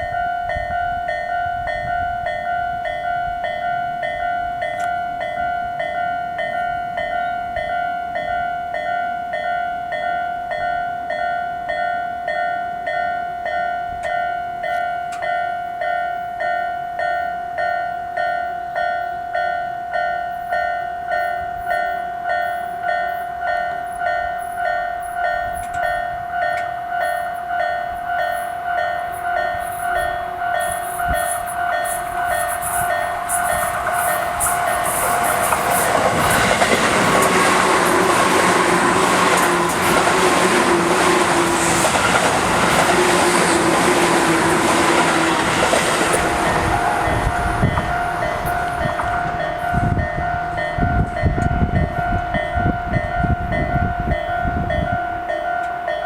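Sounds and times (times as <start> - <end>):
electric train running noise: 0.0 - 56.0
electronic crossing bells ringing: 0.0 - 56.0.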